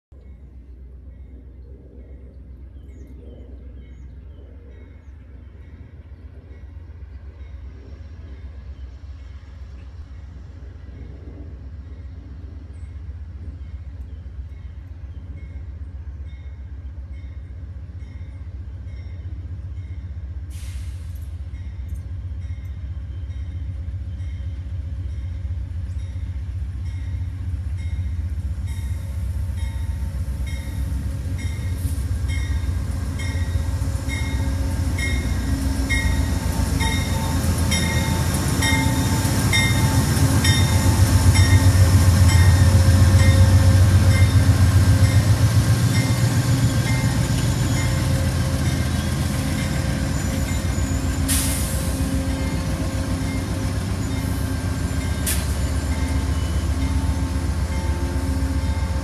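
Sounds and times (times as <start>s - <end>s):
diesel locomotive rumble: 0.1s - 59.0s.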